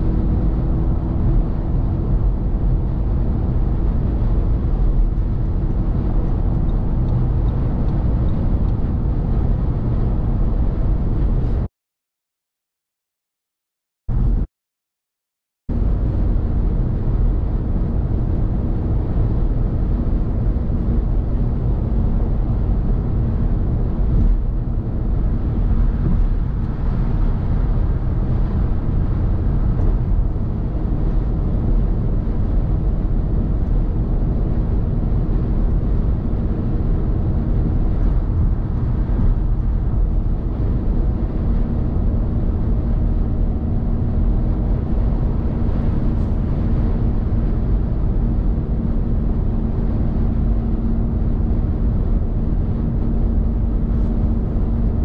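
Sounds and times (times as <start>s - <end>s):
car driving at speed: 0.0s - 11.7s, 15.7s - 55.0s.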